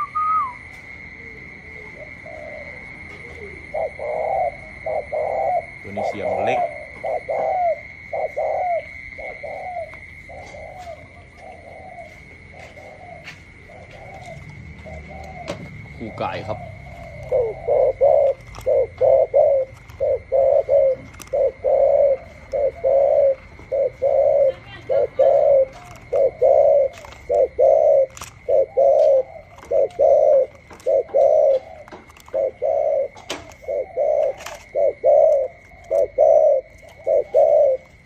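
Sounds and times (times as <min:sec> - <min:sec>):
doves cooing: 0:00.0 - 0:38.0.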